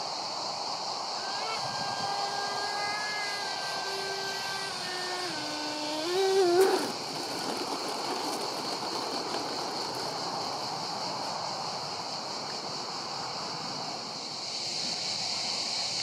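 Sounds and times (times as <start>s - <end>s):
electric ducted fans whining: 0.0s - 14.1s.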